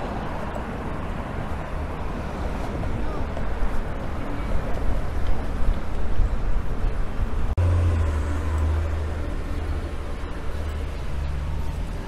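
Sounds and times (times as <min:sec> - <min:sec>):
low street ambience rumble: 0:00.0 - 0:12.0.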